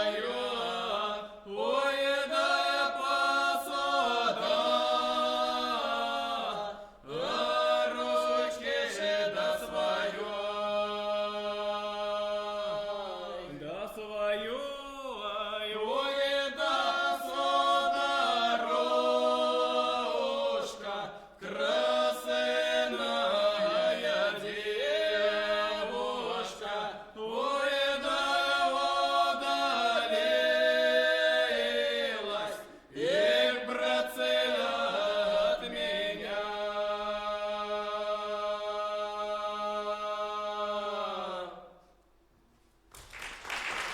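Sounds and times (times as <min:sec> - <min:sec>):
vocal trio singing a cappella: 0:00.0 - 0:42.0.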